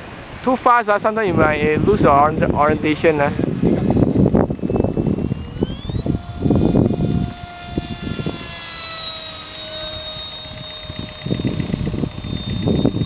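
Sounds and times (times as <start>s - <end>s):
electric ducted fan whining: 0.0s - 13.0s
wind rumble on microphone: 1.2s - 13.0s.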